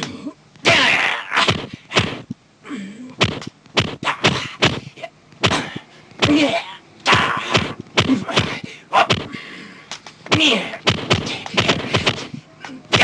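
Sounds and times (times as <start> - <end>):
sharp snapping strike effects: 0.0 - 2.4, 3.1 - 13.0
person grunting: 0.0 - 3.2, 4.0 - 9.6, 10.3 - 13.0.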